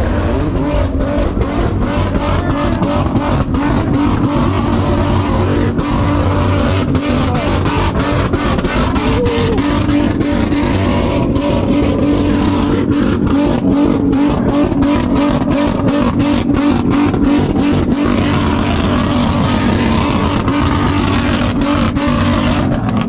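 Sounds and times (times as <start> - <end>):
car engine revving high: 0.0 - 23.0.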